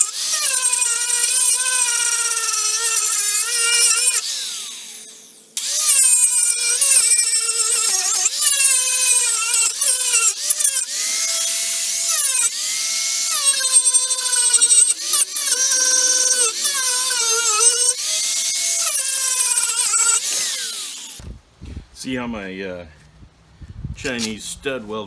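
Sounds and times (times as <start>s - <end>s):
power tool motor whine: 0.0s - 21.2s.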